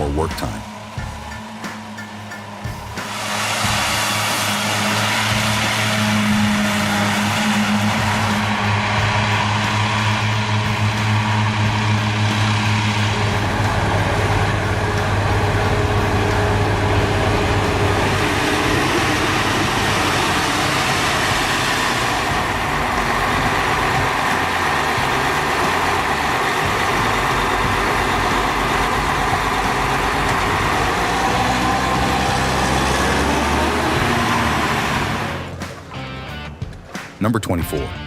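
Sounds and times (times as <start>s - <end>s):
large machine engine running: 0.0s - 36.2s.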